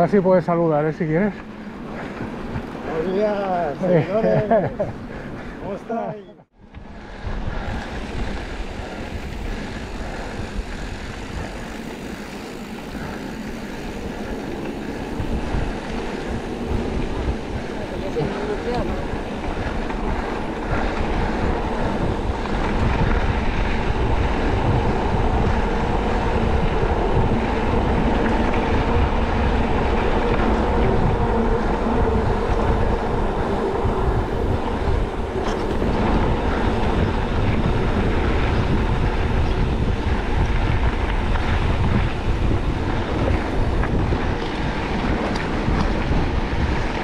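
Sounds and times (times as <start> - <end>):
e-bike rattling on rough trail: 0.0 - 47.0
wind buffeting microphone: 0.0 - 47.0.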